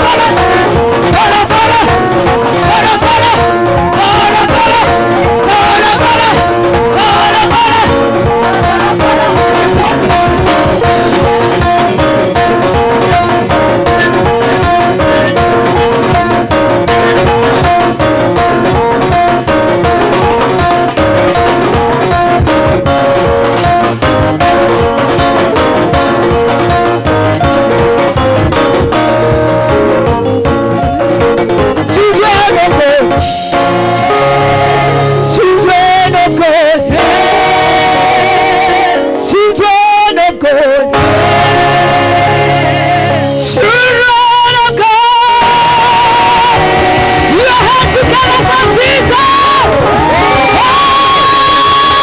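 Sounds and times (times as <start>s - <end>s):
congregation whooping: 0.0s - 30.1s, 31.8s - 39.7s, 40.9s - 52.0s
drums with steady beat: 0.0s - 39.1s, 41.0s - 43.8s, 44.6s - 52.0s
bass guitar: 0.0s - 52.0s
guitar chords: 0.0s - 52.0s
worship band playing: 0.0s - 52.0s.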